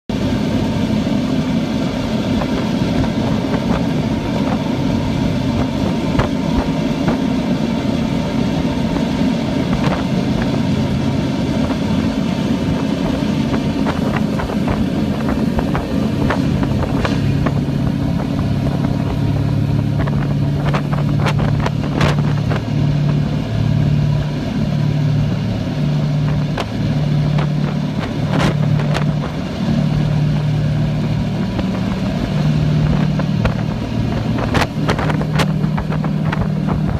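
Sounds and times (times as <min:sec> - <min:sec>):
boat engine droning: 0:00.0 - 0:36.9
pulsing low hum: 0:00.1 - 0:36.9.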